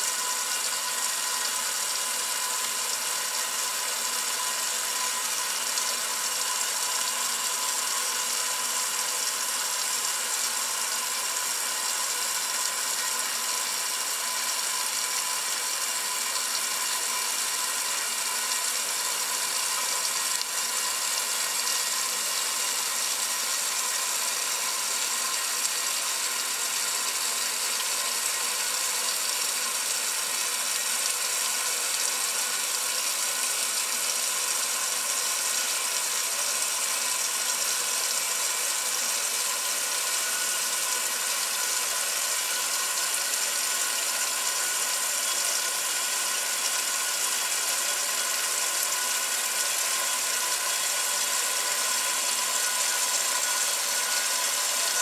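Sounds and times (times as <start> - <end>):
water running into washing machine: 0.0 - 55.0.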